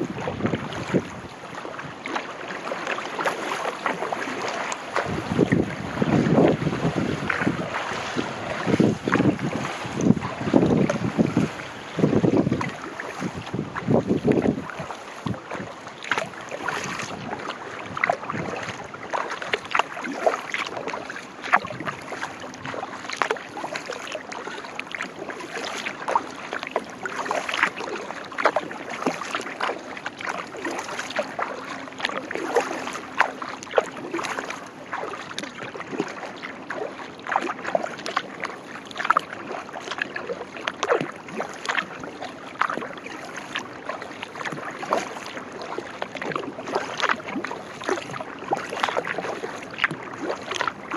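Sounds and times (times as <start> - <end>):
paddle blades splashing: 0.0 - 50.9
small irregular splashes: 0.0 - 50.9.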